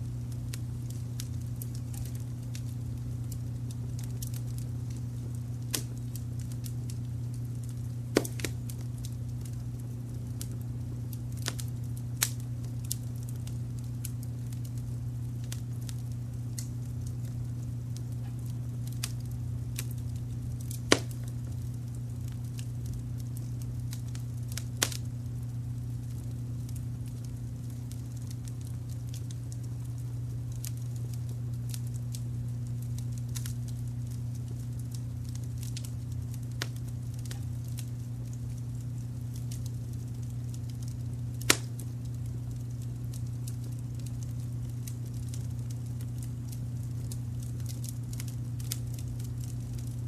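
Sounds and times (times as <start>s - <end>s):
fireplace fire crackling: 0.0s - 50.0s
low brown noise rumble: 0.0s - 50.0s
sharp fire pops: 0.0s - 50.0s.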